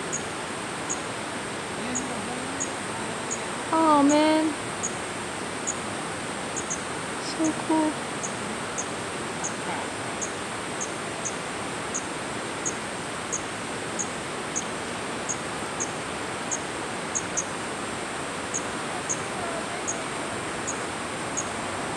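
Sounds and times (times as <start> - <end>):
outdoor background hiss: 0.0 - 21.9.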